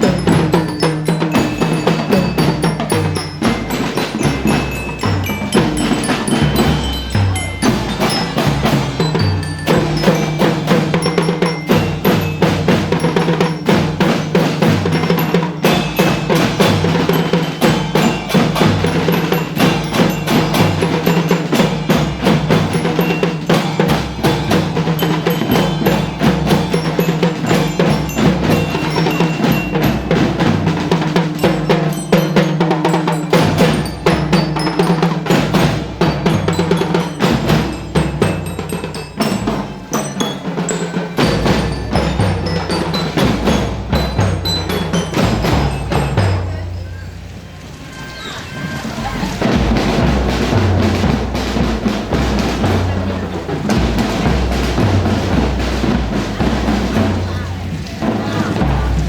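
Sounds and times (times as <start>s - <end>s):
bell lyra ringing notes: 0.0s - 50.2s
marching band playing a march: 0.0s - 59.0s
rapid drumming: 0.0s - 59.0s.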